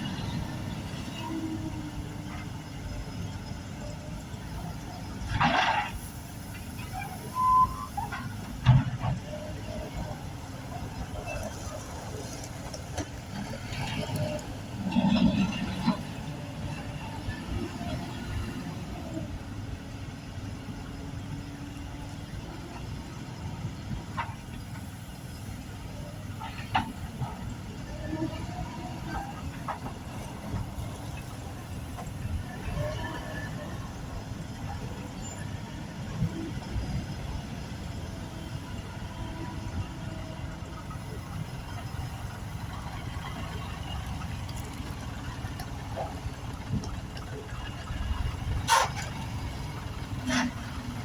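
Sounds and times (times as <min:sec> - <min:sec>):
diesel engine rumbling: 0:00.0 - 0:51.0.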